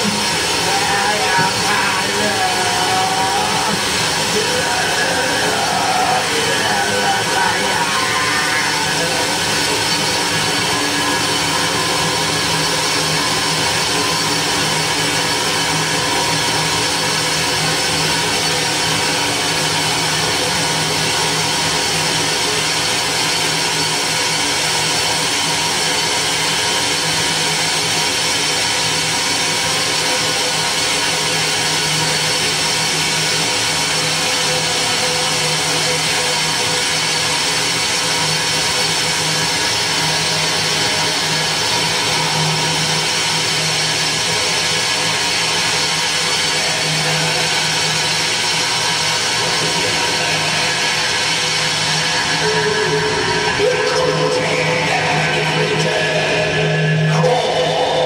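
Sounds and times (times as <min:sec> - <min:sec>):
harsh amplified noise: 0:00.0 - 0:58.0
steady low hum: 0:00.0 - 0:58.0.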